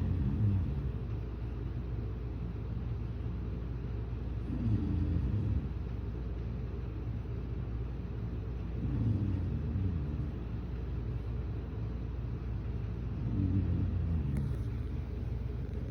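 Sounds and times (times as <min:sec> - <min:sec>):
low hum: 0:00.0 - 0:15.9.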